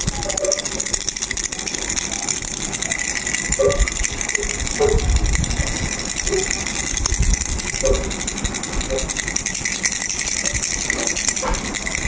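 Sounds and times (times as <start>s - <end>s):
plastic baby rattle shaken: 0.0s - 12.0s.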